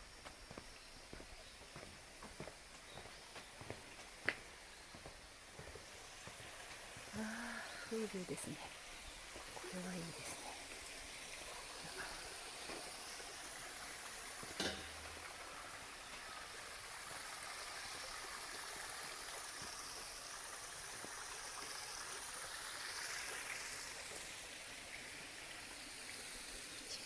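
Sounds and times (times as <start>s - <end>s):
stream water running: 0.0s - 27.0s.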